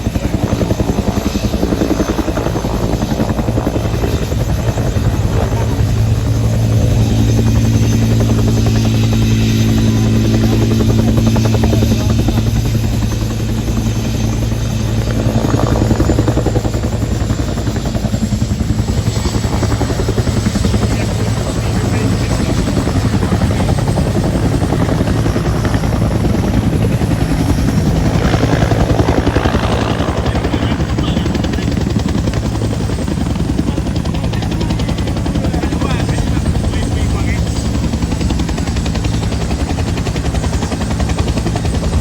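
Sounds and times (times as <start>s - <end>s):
helicopter rotor beating: 0.0s - 42.0s
turbine engine whine: 0.0s - 42.0s.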